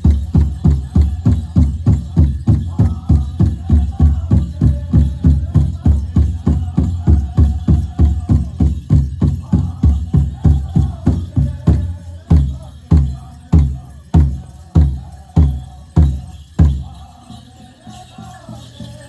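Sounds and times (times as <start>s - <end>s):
drum struck in unison: 0.0s - 16.9s
people singing: 0.0s - 19.0s.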